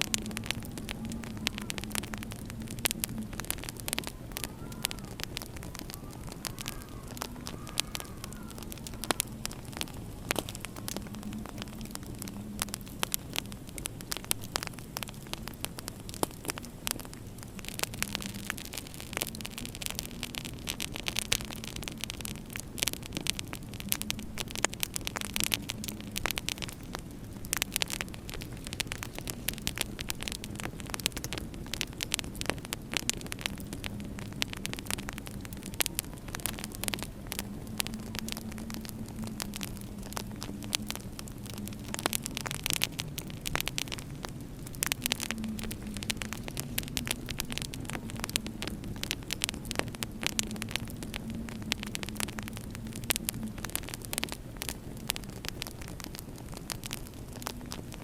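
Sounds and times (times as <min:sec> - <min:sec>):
fireplace fire crackling and popping: 0:00.0 - 0:58.0
howling winter wind: 0:00.0 - 0:58.0.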